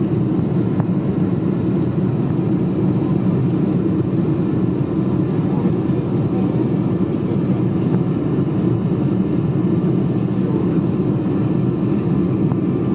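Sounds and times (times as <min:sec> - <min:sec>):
airplane cabin engine roar: 0:00.0 - 0:12.9.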